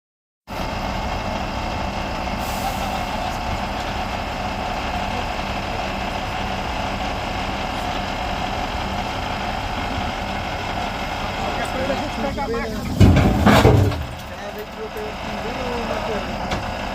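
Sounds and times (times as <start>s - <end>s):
heavy vehicle engine hum: 0.5s - 16.9s
loud mechanical noise: 0.5s - 16.9s.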